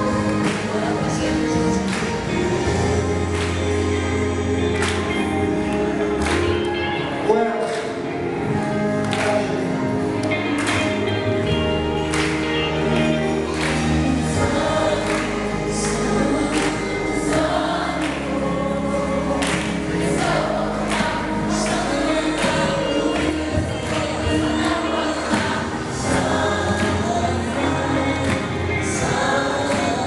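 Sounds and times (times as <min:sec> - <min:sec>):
long bass notes: 0:00.0 - 0:30.0
youth choir singing gospel: 0:00.0 - 0:30.0.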